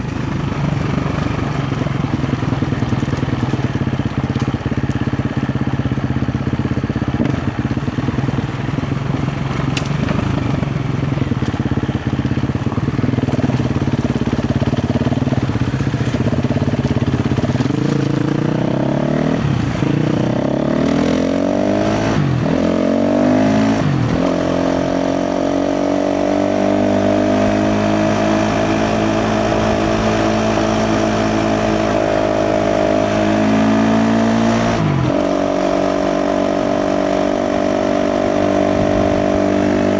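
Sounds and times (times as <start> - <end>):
dirt bike engine revving: 7.0 - 39.9.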